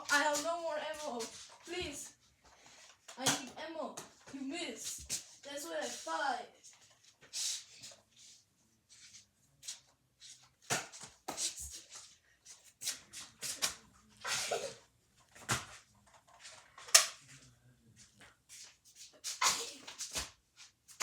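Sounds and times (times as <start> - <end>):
rustling of people moving: 0.0 - 20.8.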